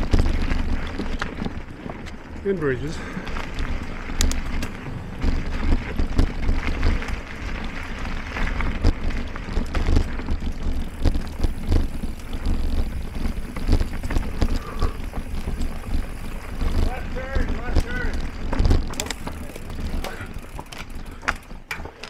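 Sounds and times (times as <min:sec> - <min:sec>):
bike knocks and rattles: 0:00.0 - 0:02.4, 0:03.0 - 0:22.0
bike tyre and drivetrain noise: 0:00.0 - 0:22.0
wind buffeting microphone: 0:02.8 - 0:21.2.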